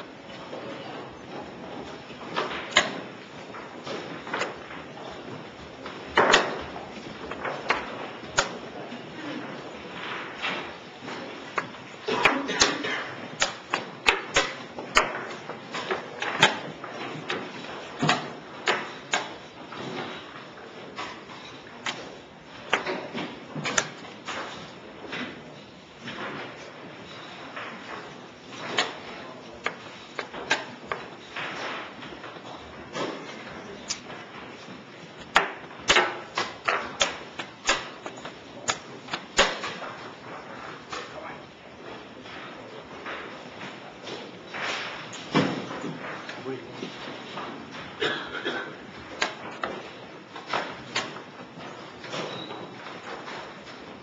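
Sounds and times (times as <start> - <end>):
chess pieces clacking on board: 0.3 - 25.4, 26.1 - 41.1, 48.7 - 54.0.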